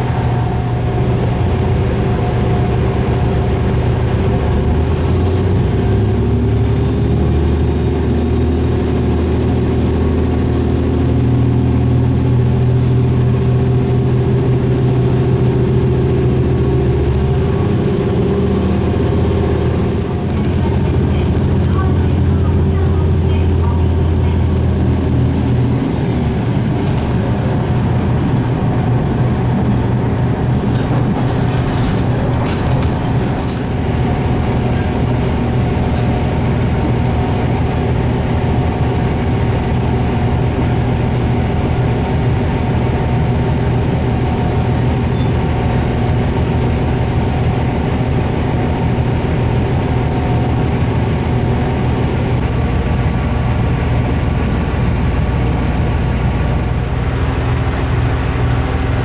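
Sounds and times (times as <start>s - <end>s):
diesel railcar engine drone: 0.0s - 59.0s.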